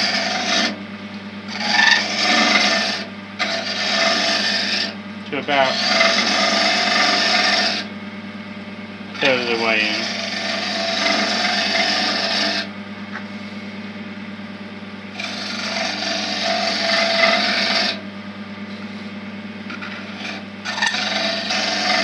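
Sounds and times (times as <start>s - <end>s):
wood lathe humming: 0.0s - 22.0s.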